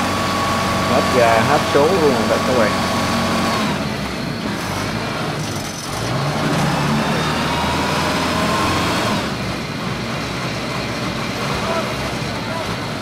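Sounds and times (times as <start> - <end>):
diesel engine running hard: 0.0 - 13.0.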